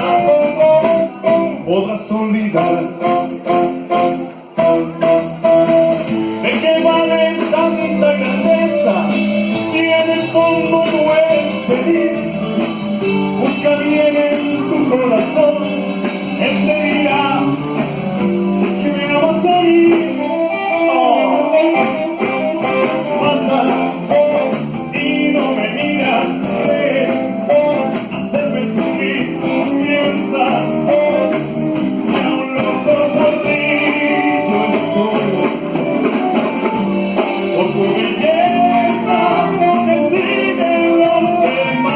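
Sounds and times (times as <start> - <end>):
guitar: 0.0 - 41.9
live band playing a song: 0.0 - 41.9
steady drum beat: 2.5 - 20.2, 21.8 - 41.9.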